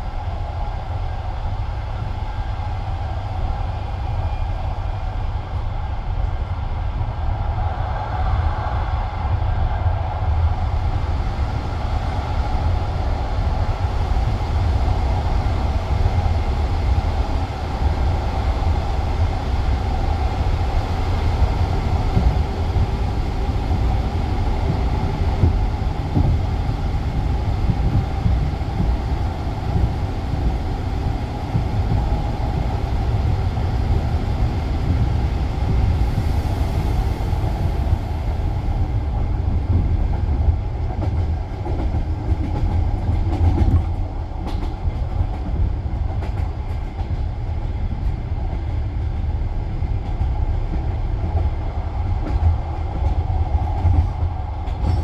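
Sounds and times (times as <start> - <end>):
train carriage wheels rumbling: 10.4 - 55.0.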